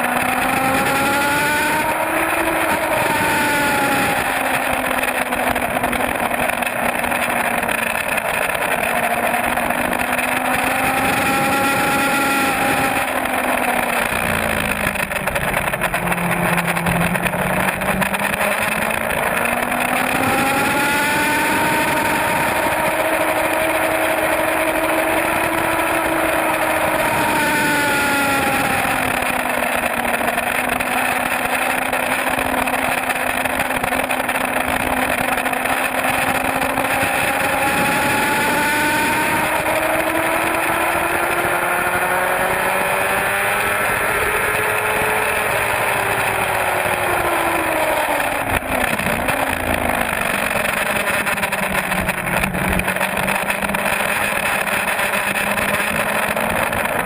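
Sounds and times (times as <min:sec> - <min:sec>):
sport bike engine revving: 0:00.0 - 0:57.0
wind noise: 0:00.0 - 0:57.0.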